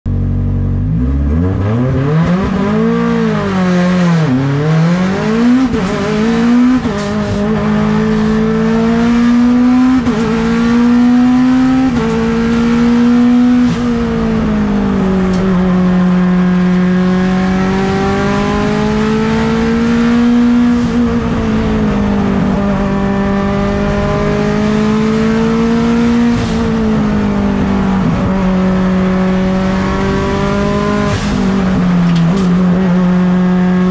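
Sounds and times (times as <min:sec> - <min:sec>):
race car engine revving: 0:00.2 - 0:33.9.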